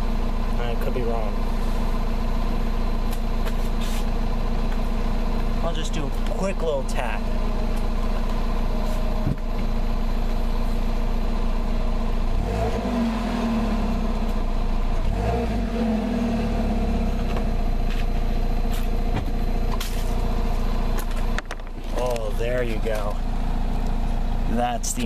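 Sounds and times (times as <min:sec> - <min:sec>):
car engine idling: 0:00.0 - 0:25.0
engine throttle blips: 0:00.0 - 0:25.0.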